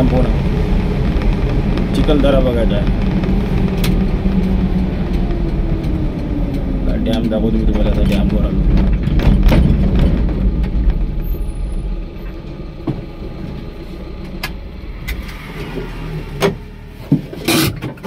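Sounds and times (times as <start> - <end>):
road noise: 0.0 - 18.0
vehicle engine hum: 0.0 - 18.0.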